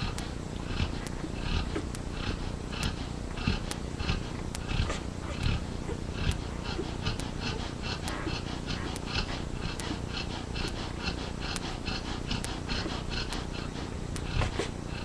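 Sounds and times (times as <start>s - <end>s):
dog snoring: 0.0s - 15.0s
puppies suckling: 0.0s - 15.0s.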